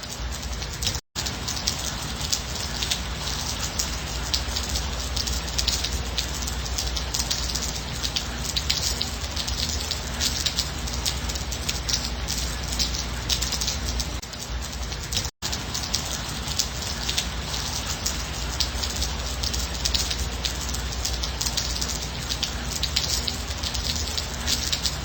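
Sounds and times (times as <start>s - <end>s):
gentle rain pattering: 0.0s - 25.0s.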